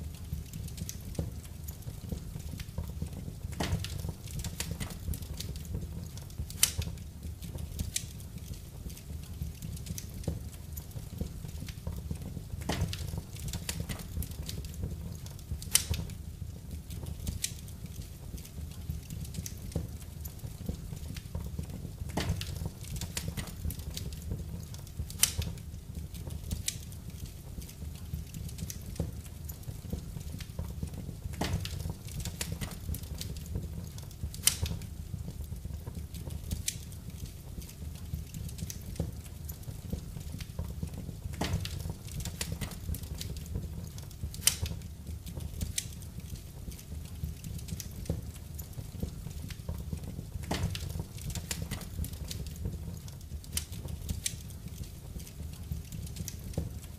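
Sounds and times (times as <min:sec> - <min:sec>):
low fire rumble: 0:00.0 - 0:56.9
wood fire crackling: 0:00.0 - 0:56.9.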